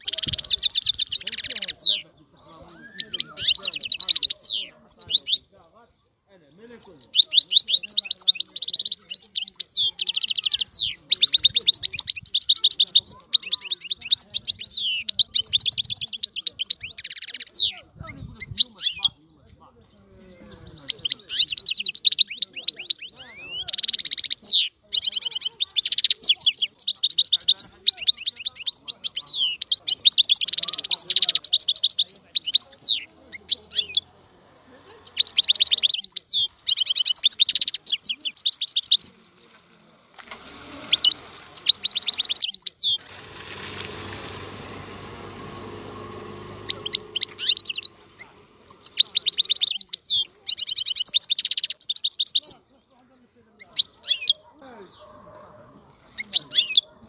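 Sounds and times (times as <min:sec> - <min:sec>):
goldfinch singing: 0:00.0 - 0:05.6, 0:06.6 - 0:19.2, 0:19.8 - 0:34.2, 0:34.8 - 0:56.9.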